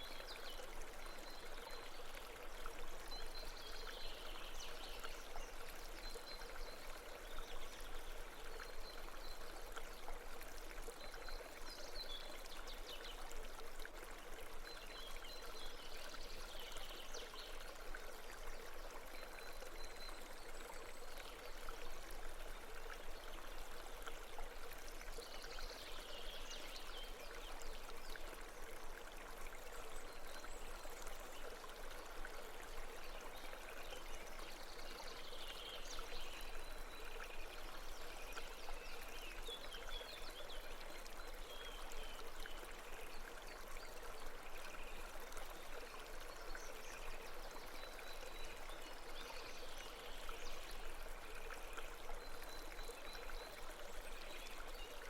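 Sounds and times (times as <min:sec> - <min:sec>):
babbling mountain stream: 0:00.0 - 0:55.0.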